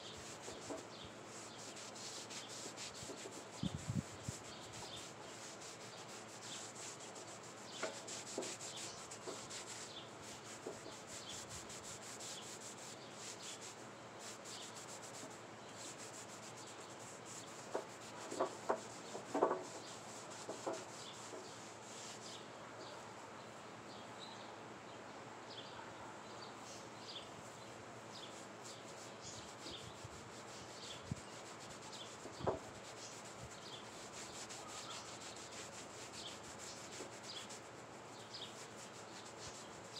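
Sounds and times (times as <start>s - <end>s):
rubbing hiss on wood: 0.0s - 23.0s, 27.4s - 39.9s.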